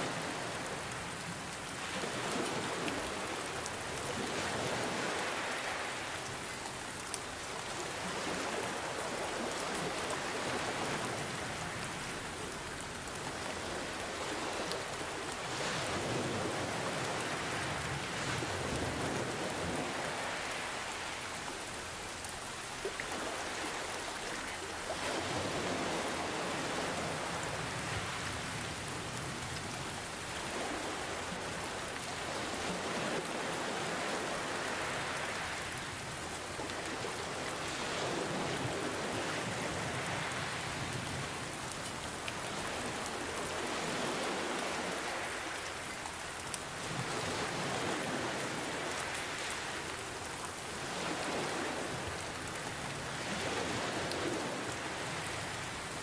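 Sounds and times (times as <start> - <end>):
ocean waves: 0.0 - 56.0
steady rain: 0.0 - 56.0.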